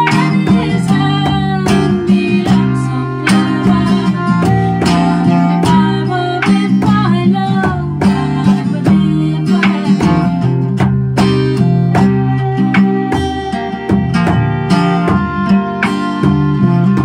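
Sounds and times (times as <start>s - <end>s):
fiddle melody: 0.0s - 17.0s
frame drum beats: 0.0s - 17.0s
strummed acoustic guitar: 0.0s - 17.0s.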